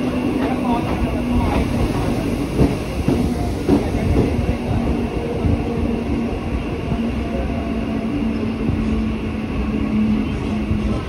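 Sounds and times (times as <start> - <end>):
steady train hum: 0.0 - 11.0
train wheels rumbling on rails: 0.0 - 11.0.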